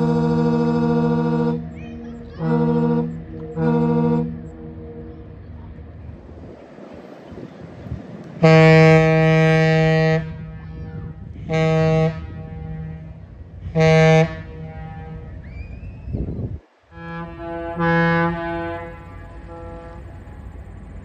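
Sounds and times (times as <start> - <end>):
horn echo: 0.0 - 6.6, 8.4 - 15.7, 16.9 - 20.4
deep ship air horn blasts: 0.0 - 20.8.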